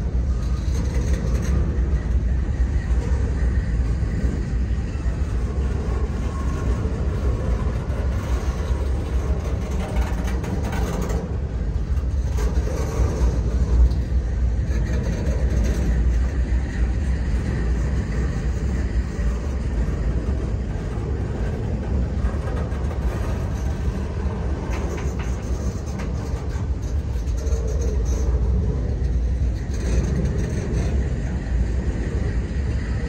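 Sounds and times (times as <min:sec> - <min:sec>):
freight cars rolling on rails: 0:00.0 - 0:33.0.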